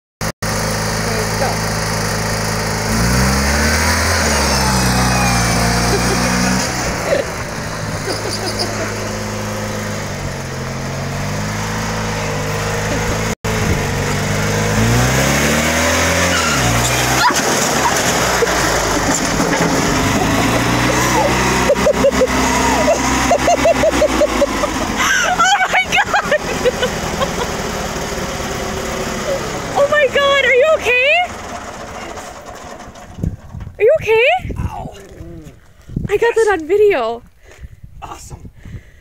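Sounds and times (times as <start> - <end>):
tractor engine revving: 0.4 - 34.6
tractor crashing over: 0.5 - 33.8.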